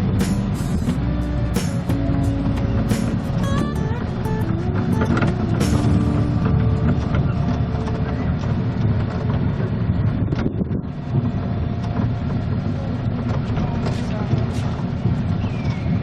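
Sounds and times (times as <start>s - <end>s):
vehicle running with rattling: 0.0s - 16.0s.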